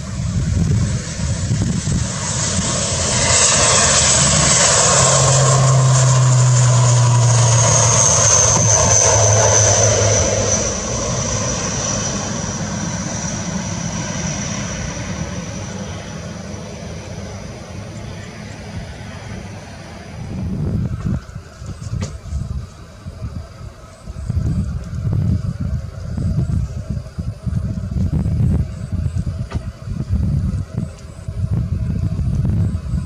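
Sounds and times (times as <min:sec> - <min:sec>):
high engine whine: 0:00.0 - 0:33.0
propeller plane passing: 0:00.0 - 0:33.0.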